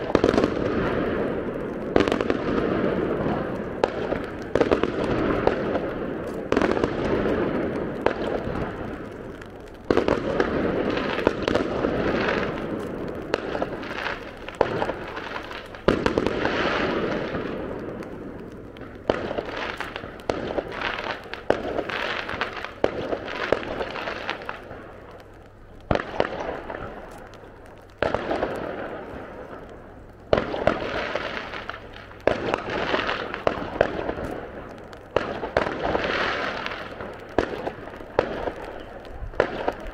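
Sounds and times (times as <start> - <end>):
fireworks bangs: 0.0 - 39.9
fireworks crackling and rumble: 0.0 - 39.9.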